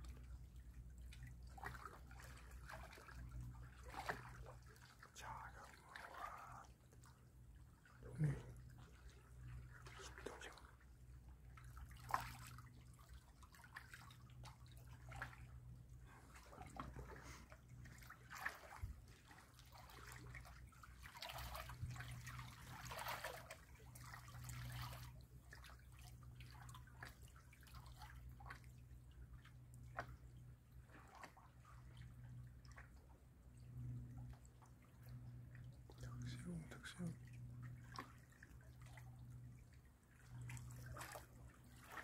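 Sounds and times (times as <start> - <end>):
water lapping against rocks: 0.0 - 28.7, 35.8 - 42.0
steady low hum: 0.0 - 42.0.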